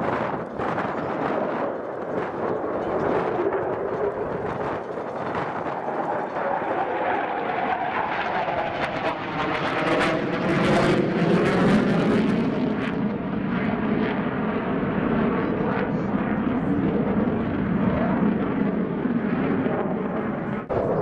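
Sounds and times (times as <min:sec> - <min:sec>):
crackling jet roar: 0:00.0 - 0:21.0
fighter jet passing: 0:00.0 - 0:21.0.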